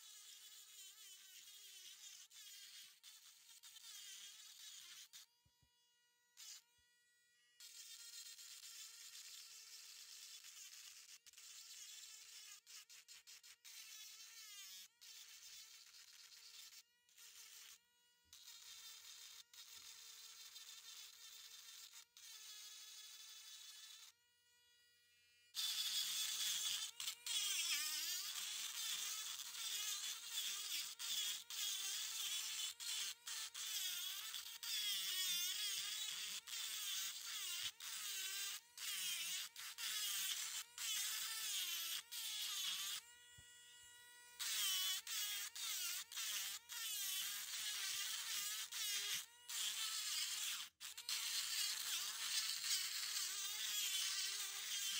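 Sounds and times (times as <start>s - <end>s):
rotary tool grinding stone: 0.0s - 5.3s, 7.6s - 24.2s, 25.5s - 54.9s.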